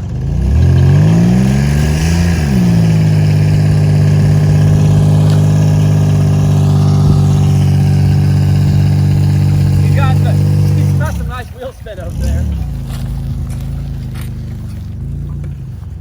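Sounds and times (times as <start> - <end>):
car engine revving under load: 0.0 - 16.0
wheels spinning: 0.0 - 16.0.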